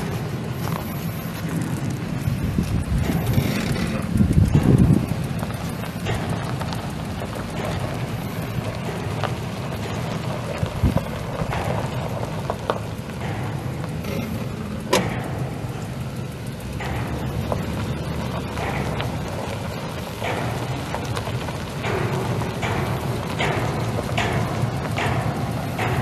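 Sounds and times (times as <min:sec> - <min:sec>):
clicks and knocks: 0:00.0 - 0:26.0
engine idling: 0:00.0 - 0:26.0.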